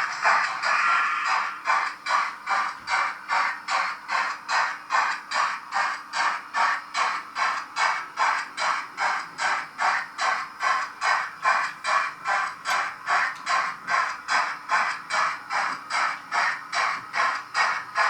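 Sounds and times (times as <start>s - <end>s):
model train steam chuffs: 0.0s - 18.0s.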